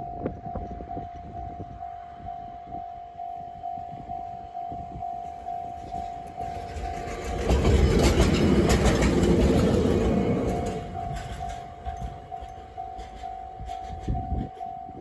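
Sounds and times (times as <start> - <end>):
diesel locomotive passing: 0.0 - 15.0
level-crossing alarm ringing: 0.0 - 15.0.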